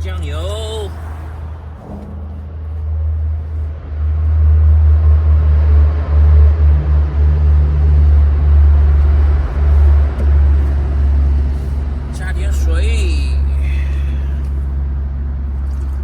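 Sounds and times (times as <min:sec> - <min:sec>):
traffic rumble on bridge: 0:00.0 - 0:16.0.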